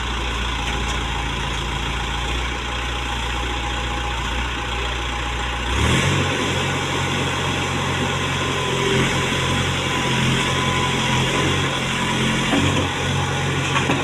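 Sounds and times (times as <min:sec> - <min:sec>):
diesel engine idling and revving: 0:00.0 - 0:14.0.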